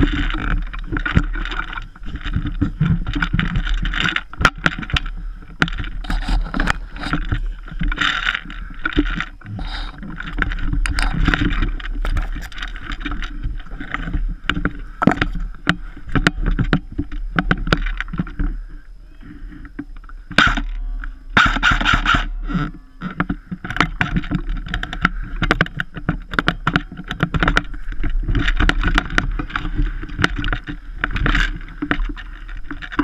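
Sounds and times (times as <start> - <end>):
knocks clicks and rustling: 0.0 - 18.7, 19.6 - 33.0
wind rumble on microphone: 0.0 - 33.0.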